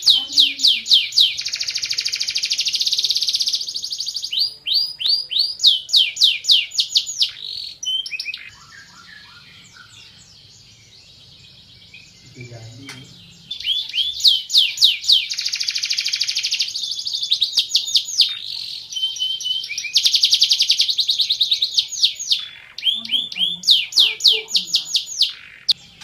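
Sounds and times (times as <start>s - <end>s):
canary singing whistles and trills: 0.0s - 26.0s.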